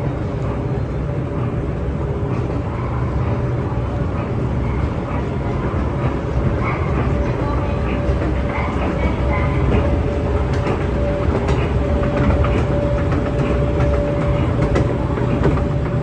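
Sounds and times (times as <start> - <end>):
constant hum: 0.0 - 16.0
escalator steps rumbling: 0.0 - 16.0.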